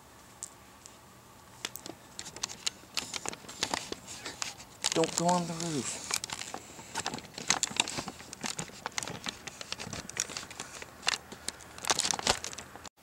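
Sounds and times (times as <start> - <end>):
crinkling crackling rustles: 0.3 - 13.0.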